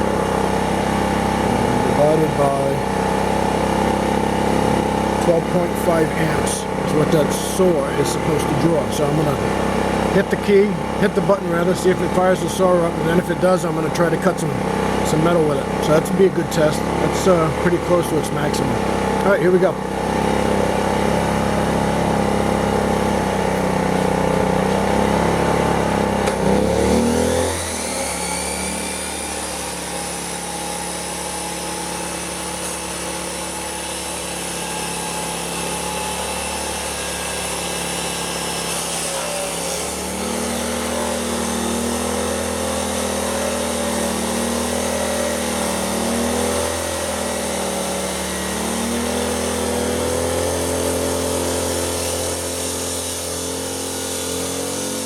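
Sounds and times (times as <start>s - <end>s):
chop saw whining: 0.0s - 55.0s
generator engine running: 0.0s - 55.0s
saw cutting steel: 0.0s - 55.0s.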